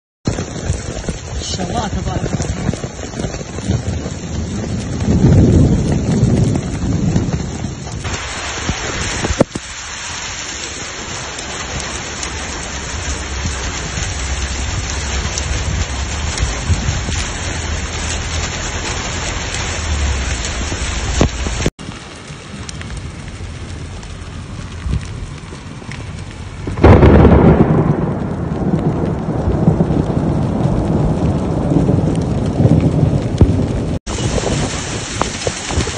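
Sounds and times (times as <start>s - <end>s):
heavy rain pouring: 0.3s - 35.9s
deep rumble: 0.4s - 9.8s, 10.6s - 35.9s.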